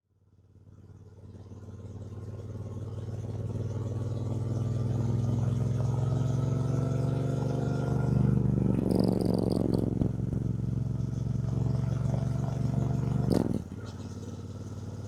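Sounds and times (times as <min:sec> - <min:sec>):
motorcycle engine running: 0:00.6 - 0:15.0.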